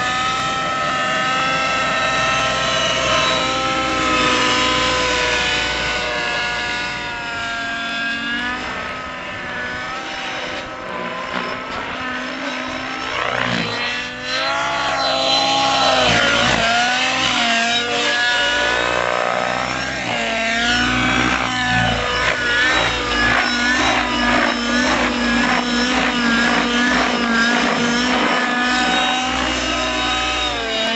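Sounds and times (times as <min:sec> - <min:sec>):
model helicopter engine whine: 0:00.0 - 0:30.9.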